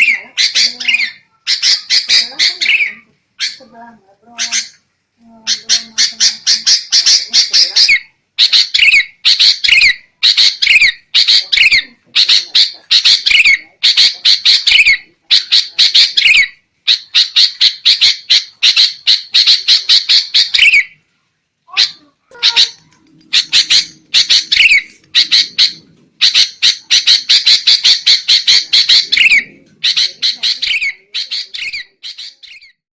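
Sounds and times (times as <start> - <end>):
bulbul chattering calls: 0.0 - 3.7, 5.5 - 21.0, 21.7 - 32.8.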